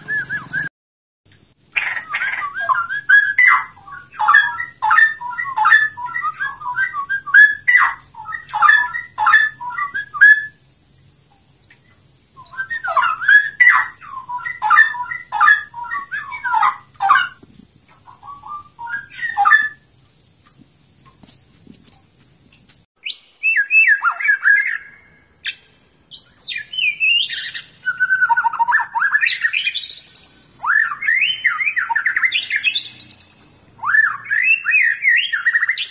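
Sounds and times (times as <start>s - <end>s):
bird singing whistled notes: 0.0s - 0.7s, 1.8s - 10.6s, 12.4s - 17.1s, 18.1s - 19.9s, 23.0s - 35.9s.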